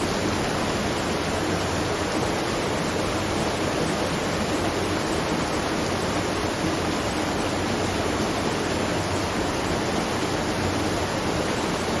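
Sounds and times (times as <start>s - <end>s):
water rushing at watermill: 0.0s - 12.0s.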